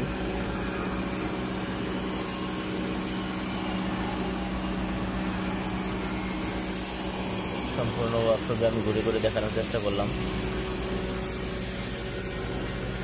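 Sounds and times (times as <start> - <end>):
engine-driven welder humming: 0.0 - 13.0.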